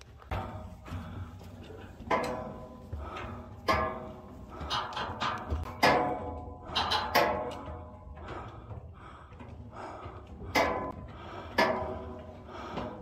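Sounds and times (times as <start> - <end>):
footsteps clanging on metal stairs: 0.0 - 13.0.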